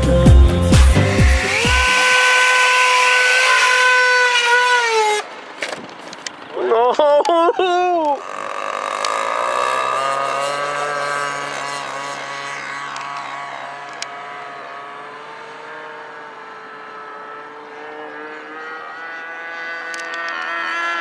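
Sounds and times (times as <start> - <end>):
model plane engine drone: 1.0 - 6.2, 8.1 - 21.0.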